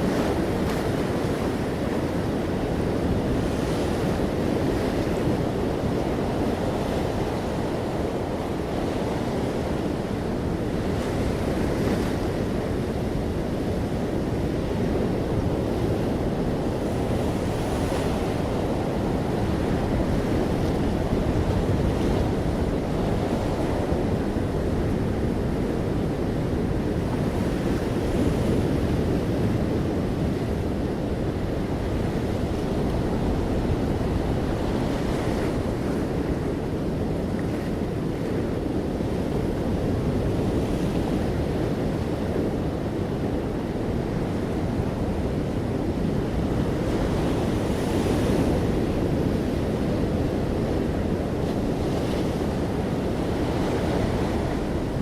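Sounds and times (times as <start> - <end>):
ocean waves washing onto shore: 0.0 - 55.0.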